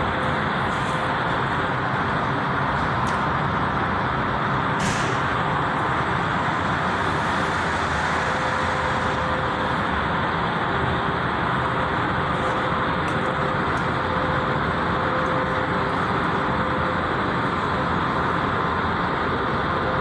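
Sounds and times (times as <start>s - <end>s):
motor traffic noise: 0.0s - 20.0s.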